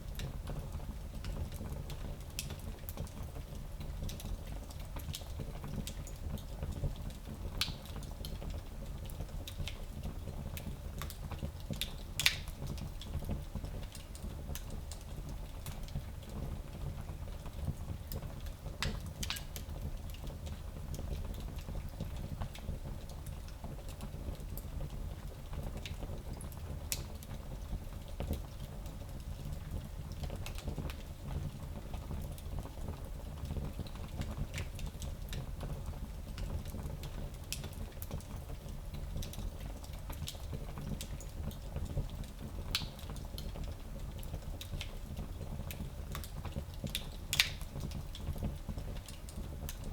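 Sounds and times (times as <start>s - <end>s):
wood fire crackling and popping: 0.1s - 49.9s.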